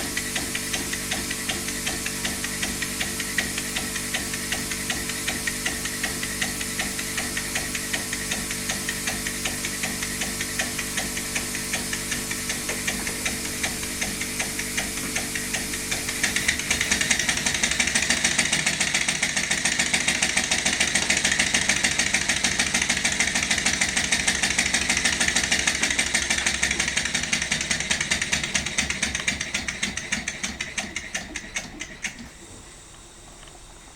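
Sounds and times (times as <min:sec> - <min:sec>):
model engine running: 0:00.0 - 0:32.3.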